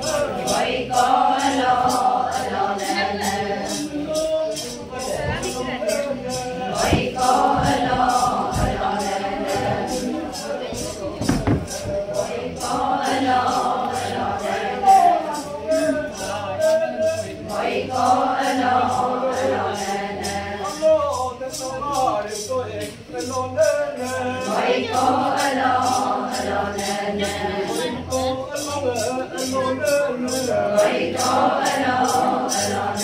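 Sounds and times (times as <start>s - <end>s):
women singing in chorus: 0.0s - 21.0s, 23.5s - 33.0s
shaken rattle beat: 0.0s - 33.0s.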